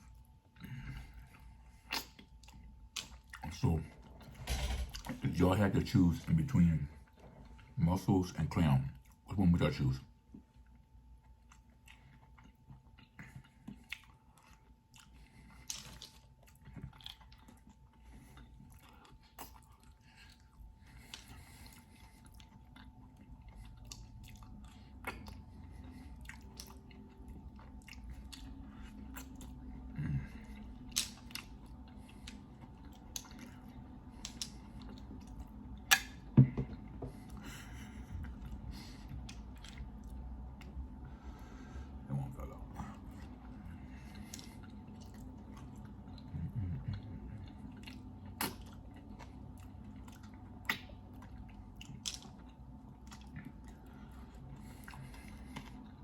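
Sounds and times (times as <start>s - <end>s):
chewing clam meat: 0.0s - 56.0s.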